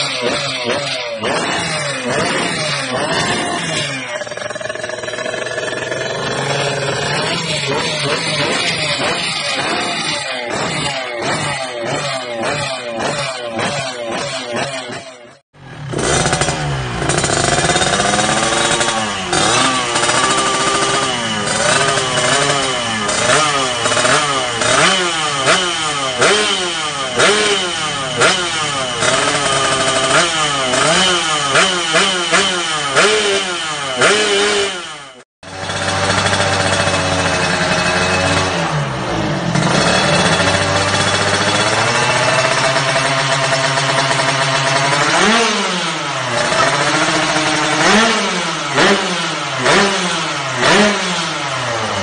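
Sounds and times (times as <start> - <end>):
two-stroke bike running steadily: 0.0 - 52.0
two-stroke motorcycle engine revving: 0.0 - 52.0.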